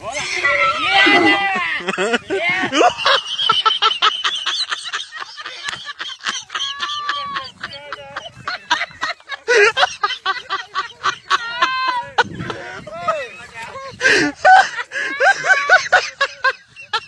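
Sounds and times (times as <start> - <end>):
people's voices: 0.0 - 17.0
snickering laughter: 1.0 - 13.3, 14.0 - 17.0.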